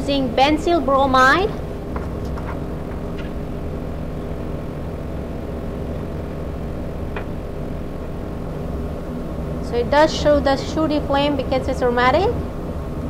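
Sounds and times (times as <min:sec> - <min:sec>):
gas burner hum: 0:00.0 - 0:13.0
room ventilation: 0:00.0 - 0:13.0.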